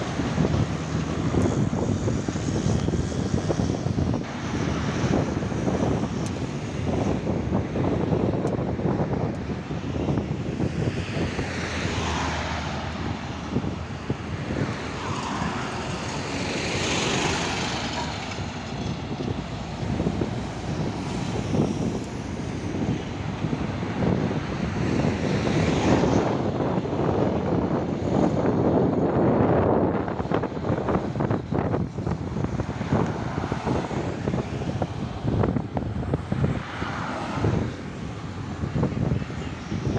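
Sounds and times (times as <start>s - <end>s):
highway traffic: 0.0s - 39.9s
trucks passing: 0.0s - 39.9s.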